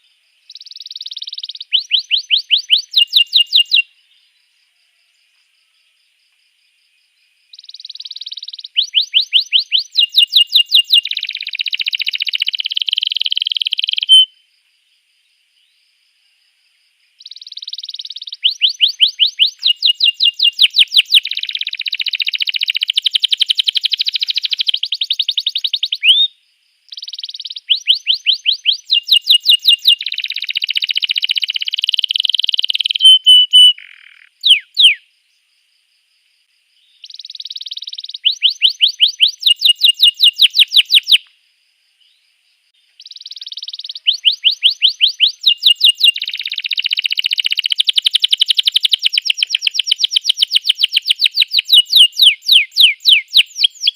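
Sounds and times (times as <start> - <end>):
canary singing trills: 0.0 - 4.4, 7.5 - 14.4, 17.2 - 35.0, 36.8 - 41.3, 42.9 - 53.9.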